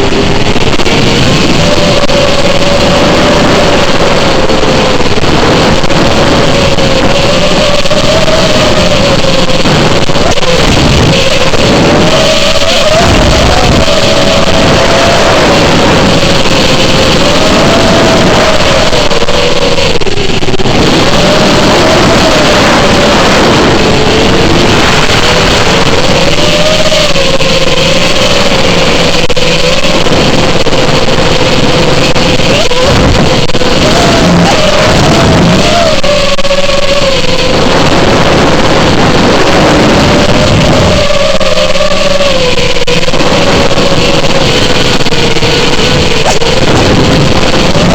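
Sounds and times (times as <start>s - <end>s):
drone motors whining: 0.0s - 47.9s.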